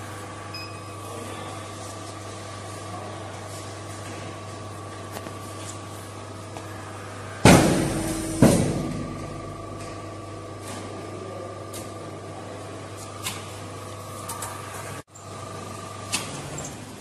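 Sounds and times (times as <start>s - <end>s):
machine electrical hum: 0.0s - 17.0s.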